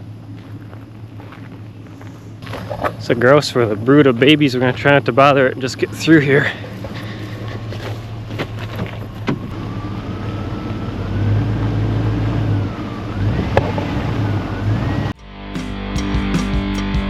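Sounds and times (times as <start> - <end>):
vehicle engine hum: 0.0 - 15.2.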